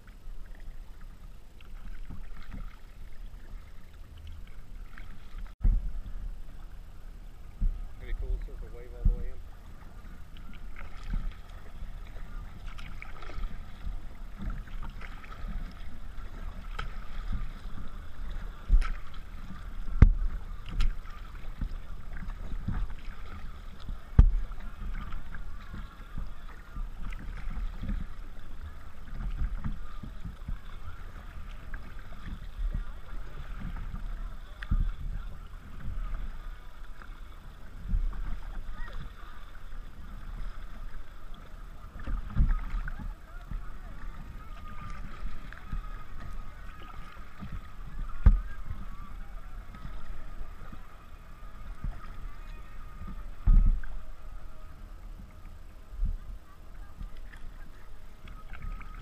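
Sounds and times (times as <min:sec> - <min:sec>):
low wind rumble: 0:00.0 - 0:59.0
paddle blades splashing: 0:00.0 - 0:59.0
waves slapping hull: 0:00.0 - 0:59.0.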